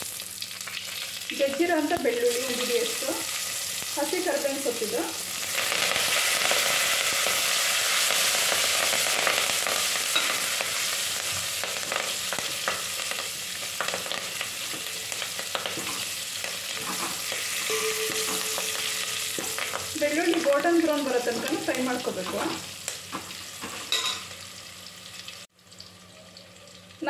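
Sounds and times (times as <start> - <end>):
leaves sizzling in hot oil: 0.0 - 27.0.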